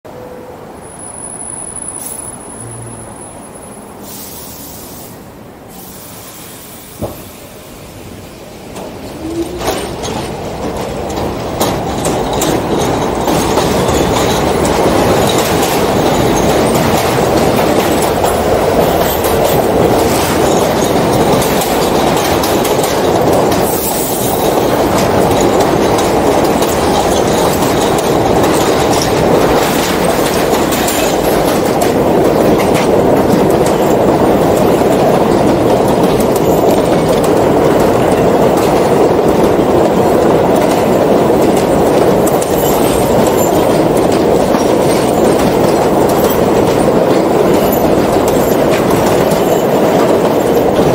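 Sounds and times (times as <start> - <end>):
train wheels rumbling on rails: 0.1 - 50.9
wheels clicking over rail joints: 8.7 - 50.9.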